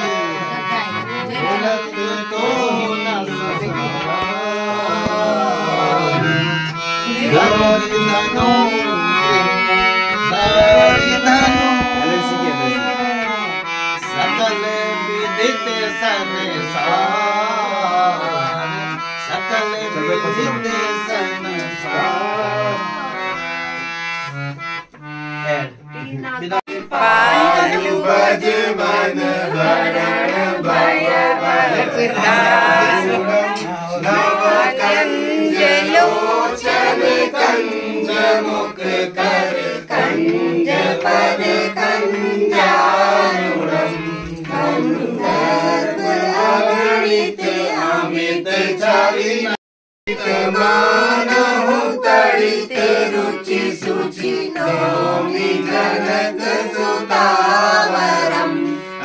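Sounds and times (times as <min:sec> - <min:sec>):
voices chanting: 0:00.0 - 0:15.6, 0:26.4 - 0:59.0
harmonium playing held notes: 0:00.0 - 0:49.4, 0:50.1 - 0:59.0.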